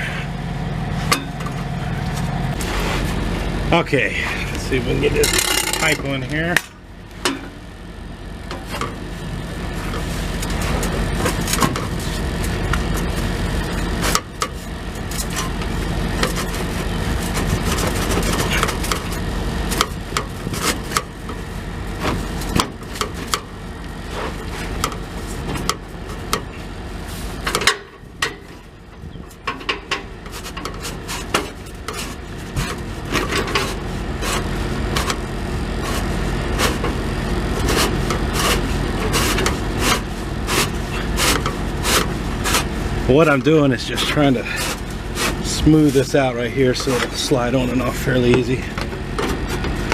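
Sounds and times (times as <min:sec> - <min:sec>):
low engine drone: 0:00.0 - 0:49.9
metal clanks and scrapes: 0:01.0 - 0:03.2, 0:05.0 - 0:07.6, 0:08.5 - 0:49.9.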